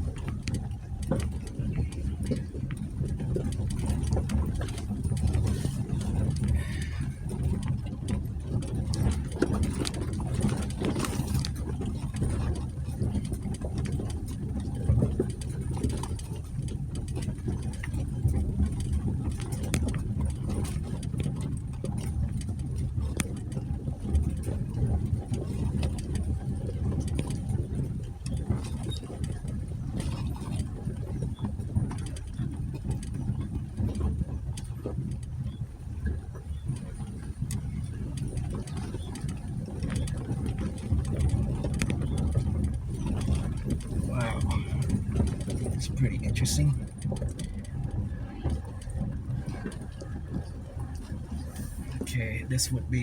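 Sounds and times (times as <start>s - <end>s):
engine low rumble: 0.0s - 53.0s.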